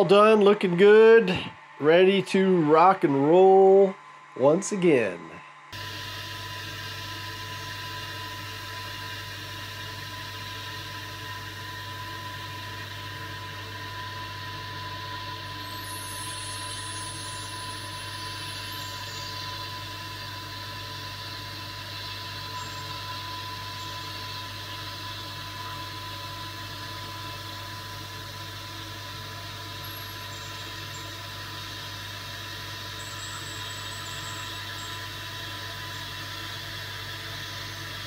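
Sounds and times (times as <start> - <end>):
high-pitched whine: 0.0 - 38.0
laser cutter hum and whir: 0.0 - 38.0.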